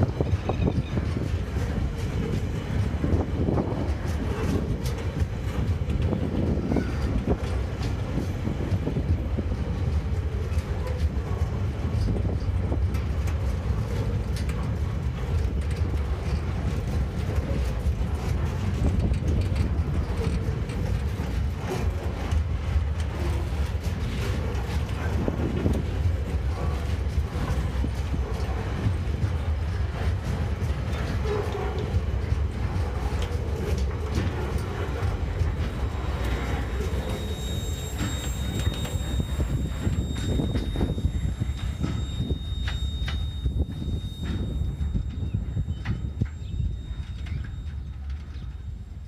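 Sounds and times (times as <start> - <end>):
freight train wheels rumbling: 0.0 - 49.0
wheels and couplings clattering: 0.0 - 49.0.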